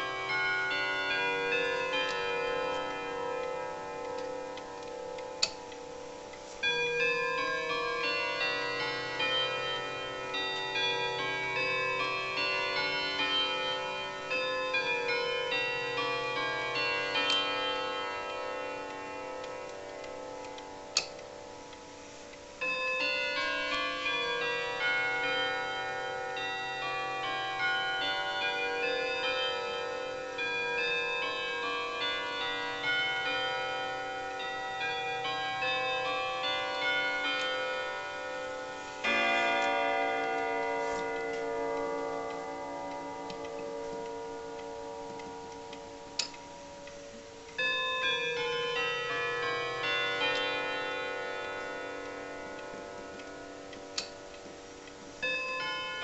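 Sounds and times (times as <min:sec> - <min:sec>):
clock chime melody: 0:00.0 - 0:56.0
clock ticking: 0:00.0 - 0:56.0
deep clock hour strike: 0:00.0 - 0:56.0.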